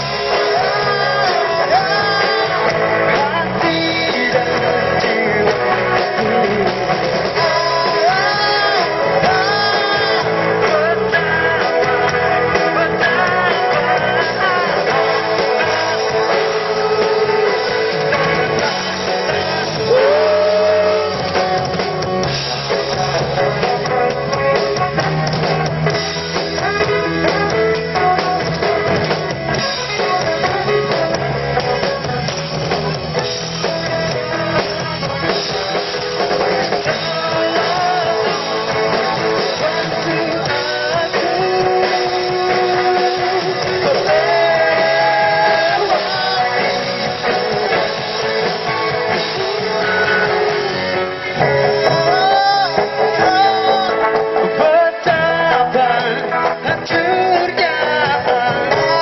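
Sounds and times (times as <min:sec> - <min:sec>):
live pop-rock band: 0:00.0 - 0:59.0
person singing: 0:00.0 - 0:59.0.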